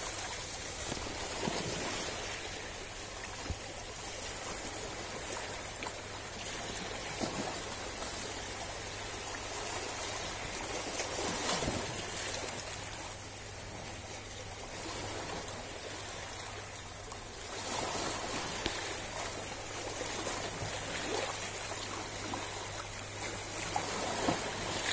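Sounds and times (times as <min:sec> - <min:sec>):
small waves lapping over rocks: 0:00.0 - 0:24.9.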